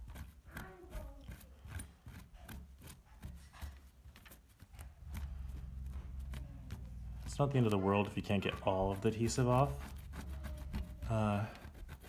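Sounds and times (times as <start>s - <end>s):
cloth scrubbing circuit board: 0.0s - 12.0s.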